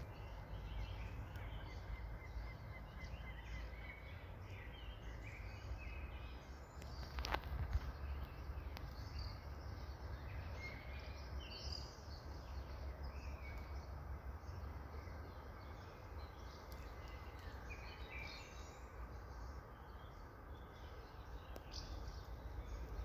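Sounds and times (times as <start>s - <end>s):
bird chirps: 0.0s - 23.0s
low rumble and hiss: 0.0s - 23.0s.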